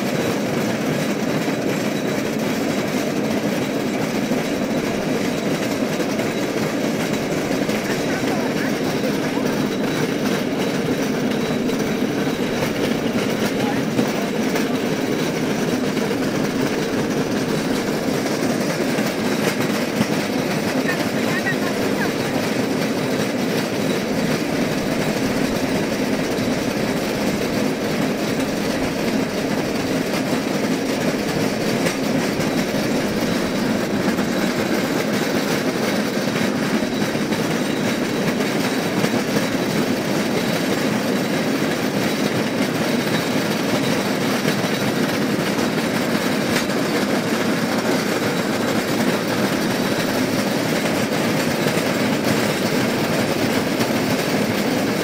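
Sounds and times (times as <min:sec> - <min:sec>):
wheel-on-rail rumble: 0:00.0 - 0:55.0
faint rail clicks: 0:00.1 - 0:55.0.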